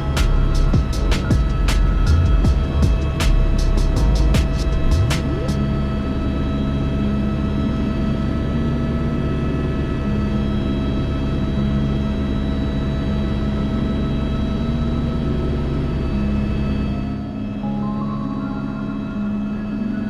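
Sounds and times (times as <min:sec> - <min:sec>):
helicopter turbine whine: 0:00.0 - 0:20.0
low engine drone: 0:00.0 - 0:20.0
slow background music: 0:00.0 - 0:20.0.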